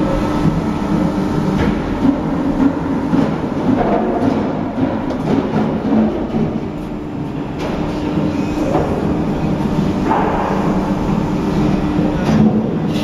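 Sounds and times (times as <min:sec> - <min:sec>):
hydraulic press humming: 0:00.0 - 0:13.0.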